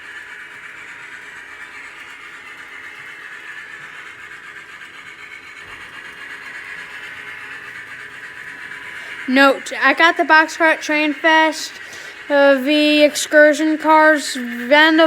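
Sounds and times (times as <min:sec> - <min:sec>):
model steam locomotive sound from speaker: 0:00.0 - 0:15.0
model train wheels on track: 0:00.0 - 0:15.0.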